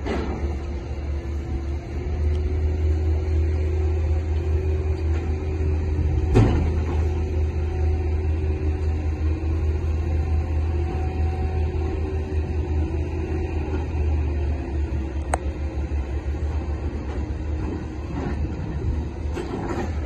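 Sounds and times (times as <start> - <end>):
low drone of cargo machinery: 0.0 - 20.0.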